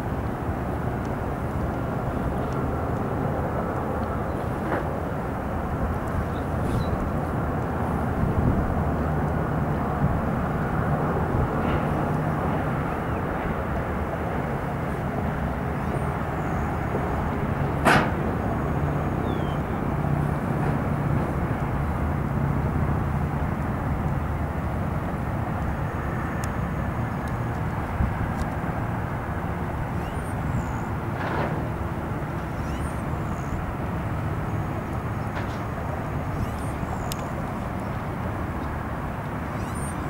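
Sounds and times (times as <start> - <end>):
airliner jet engines landing: 0.0 - 40.0.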